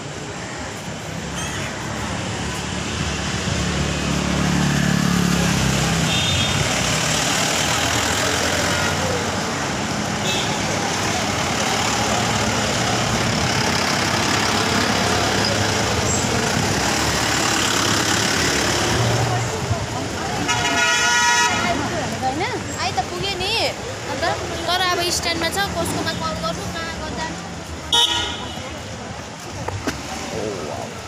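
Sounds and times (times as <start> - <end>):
road noise: 0.0 - 31.0
vehicles passing: 0.0 - 31.0.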